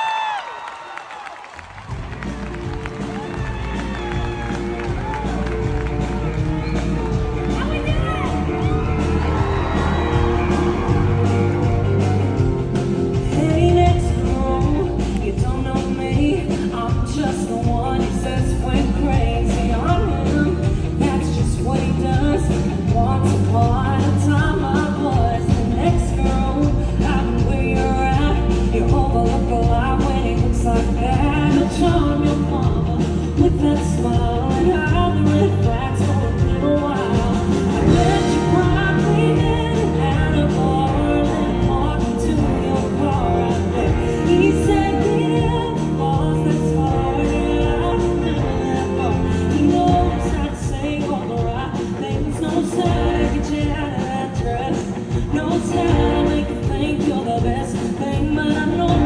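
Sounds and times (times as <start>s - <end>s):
live country band: 0.0s - 59.0s
woman singing: 7.4s - 59.0s.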